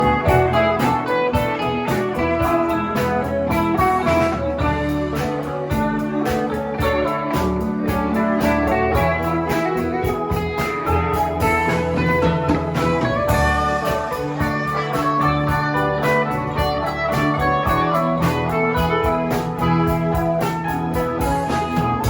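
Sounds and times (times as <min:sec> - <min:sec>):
electric guitar: 0:00.0 - 0:22.0
live band playing: 0:00.0 - 0:22.0.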